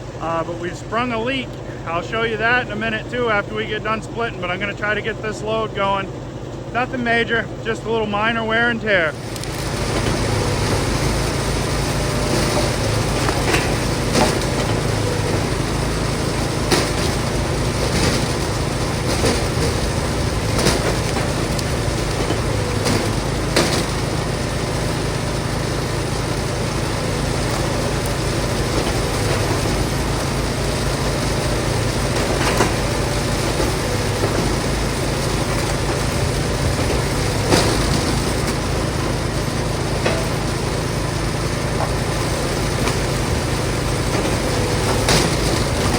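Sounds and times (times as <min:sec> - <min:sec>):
log splitter engine running: 0:00.0 - 0:45.9.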